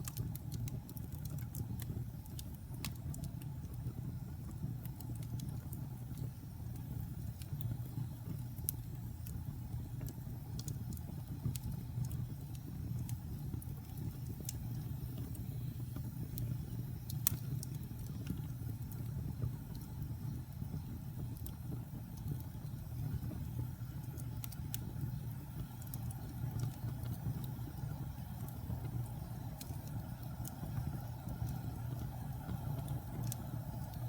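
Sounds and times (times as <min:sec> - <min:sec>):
fire crackling and popping: 0:00.0 - 0:34.0
low rumble of flames: 0:00.0 - 0:34.0.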